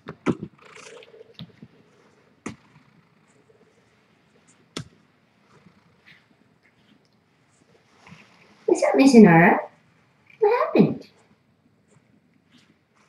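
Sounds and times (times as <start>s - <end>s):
soft rustling on fabric: 0.4s - 10.3s, 11.0s - 13.0s.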